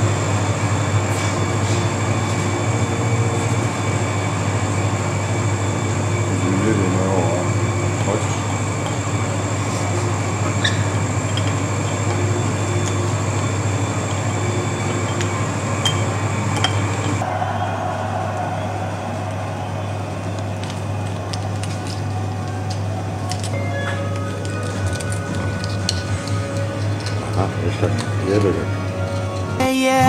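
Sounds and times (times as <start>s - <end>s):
low room hum: 0.0s - 29.7s
faint high whine: 0.0s - 29.8s.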